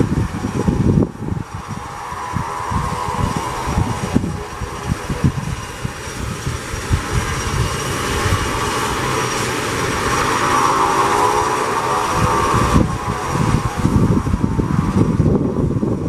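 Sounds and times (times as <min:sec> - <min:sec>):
propeller airliner engines humming: 0:00.0 - 0:16.0
wind buffeting microphone: 0:00.0 - 0:16.0.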